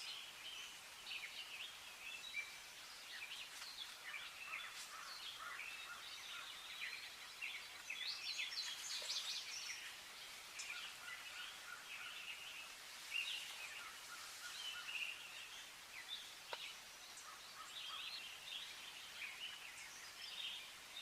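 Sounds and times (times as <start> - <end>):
songbirds chirping and warbling: 0.0 - 21.0.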